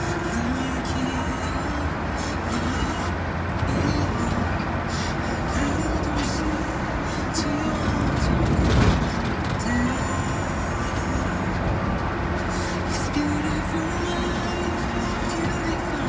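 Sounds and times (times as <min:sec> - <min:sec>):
road and engine rumble in car: 0:00.0 - 0:16.0.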